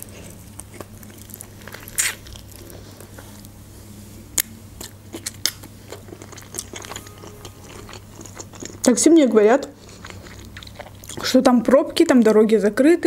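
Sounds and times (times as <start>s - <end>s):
crunchy chewing: 0.0s - 3.6s, 4.3s - 11.4s.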